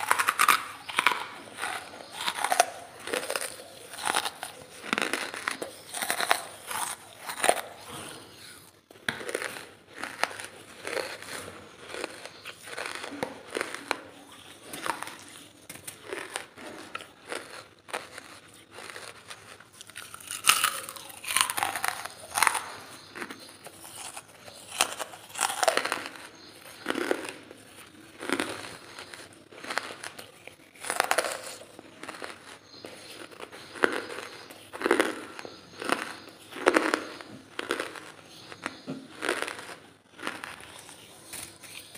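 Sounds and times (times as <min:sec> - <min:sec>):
crunching and chewing charcoal: 0:00.0 - 0:41.9.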